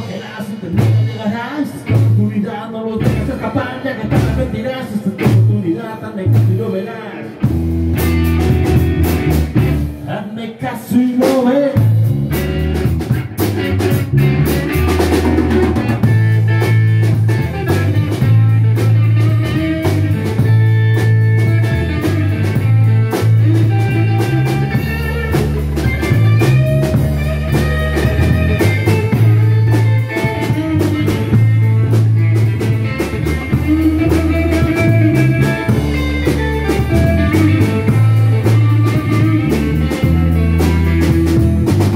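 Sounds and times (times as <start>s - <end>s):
blues band playing: 0.0s - 41.9s
electric bass guitar: 0.0s - 41.9s.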